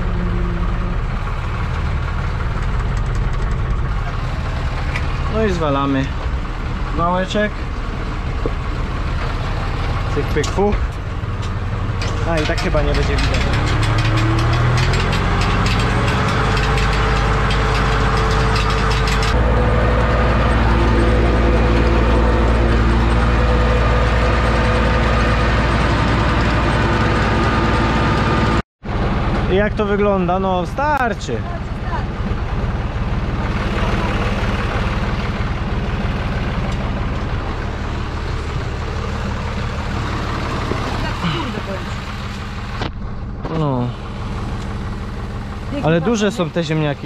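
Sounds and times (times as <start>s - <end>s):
harvester machinery rattling: 0.0s - 47.0s
tractor diesel engine: 0.0s - 47.0s.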